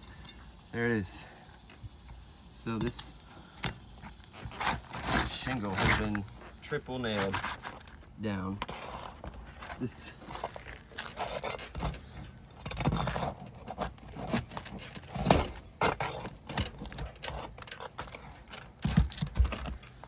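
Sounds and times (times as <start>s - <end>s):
shingle tearing free: 2.8s - 20.0s
metal bar scraping shingle: 3.7s - 20.0s.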